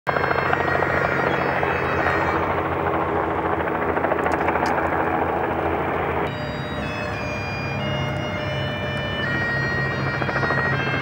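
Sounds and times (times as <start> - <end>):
twin piston engines droning: 0.1 - 11.0.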